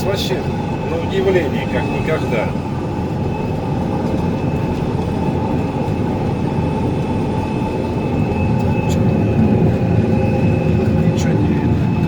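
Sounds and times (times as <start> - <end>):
thin steady whine: 0.0 - 12.0.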